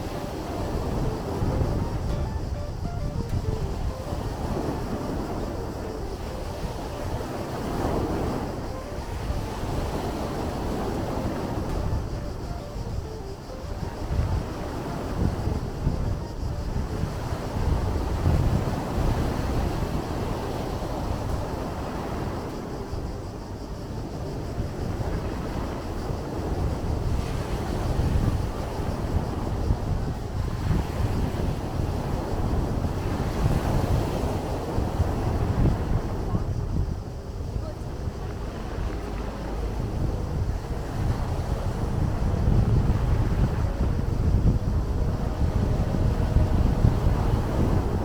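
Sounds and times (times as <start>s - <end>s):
surf rushing: 0.0s - 22.9s, 27.6s - 48.0s
sea waves washing ashore: 0.0s - 48.0s
wind rumble on microphone: 0.0s - 48.0s.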